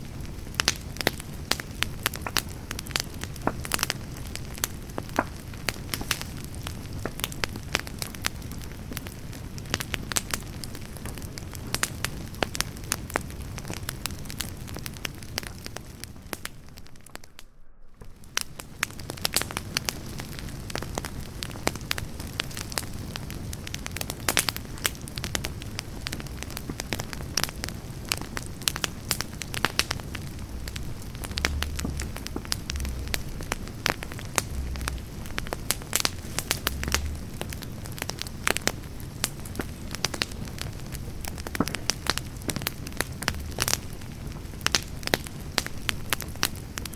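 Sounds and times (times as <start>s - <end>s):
campfire logs crackling: 0.0s - 46.9s
low rumble of flames: 0.0s - 46.9s.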